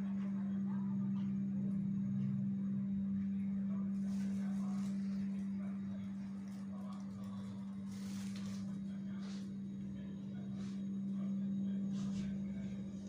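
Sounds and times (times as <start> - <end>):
steady low-pitched hum: 0.0 - 13.0.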